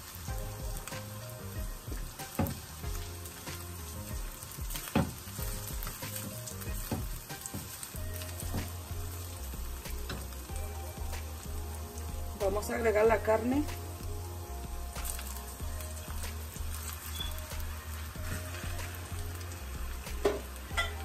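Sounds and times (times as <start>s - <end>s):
onion and garlic sizzling in oil: 0.0s - 21.0s.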